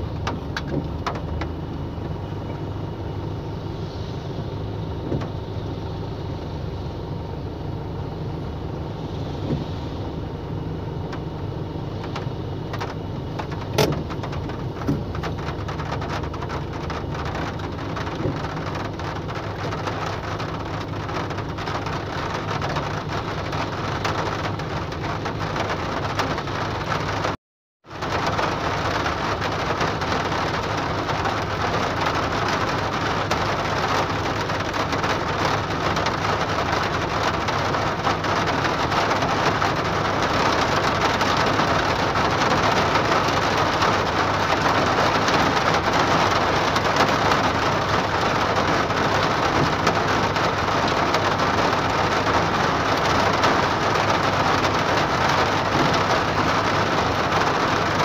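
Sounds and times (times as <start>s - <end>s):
rain on car roof: 0.0s - 58.0s.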